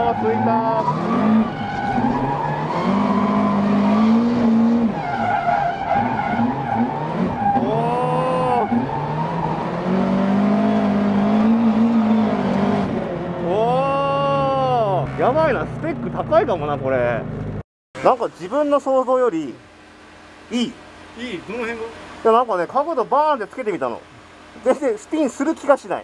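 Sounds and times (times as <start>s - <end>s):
car engine at high revs: 0.0s - 18.7s, 19.5s - 25.6s
tyres skidding: 0.0s - 25.9s.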